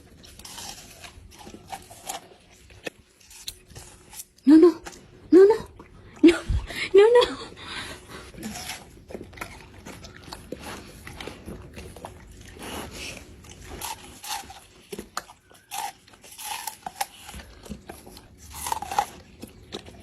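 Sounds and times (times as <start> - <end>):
dog chewing: 0.0 - 5.2, 7.7 - 20.0.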